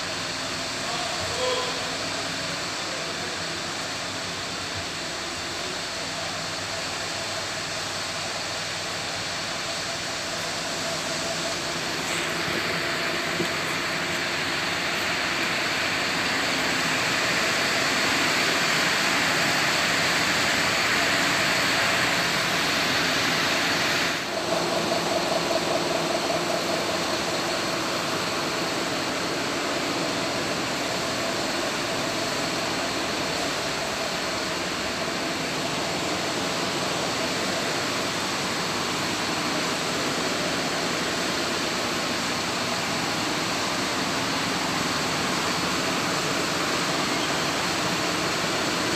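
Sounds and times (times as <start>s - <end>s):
bus engine idling: 0.0s - 48.9s.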